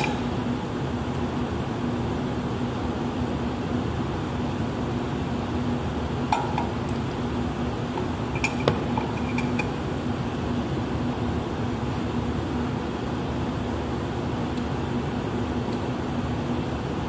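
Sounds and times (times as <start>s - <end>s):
air-handling hum: 0.0s - 17.0s.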